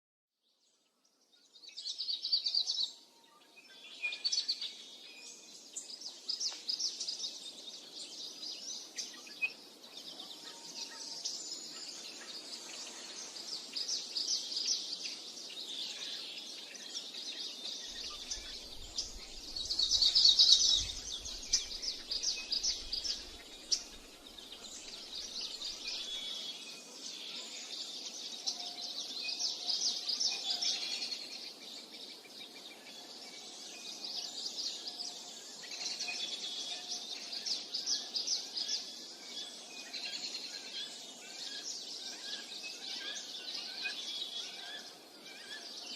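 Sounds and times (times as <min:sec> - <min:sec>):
birds chirping: 0:01.5 - 0:45.9.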